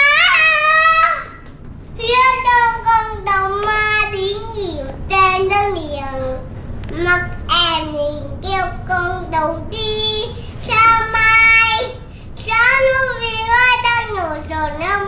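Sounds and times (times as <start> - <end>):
boy singing: 0.0 - 1.4, 2.0 - 15.0.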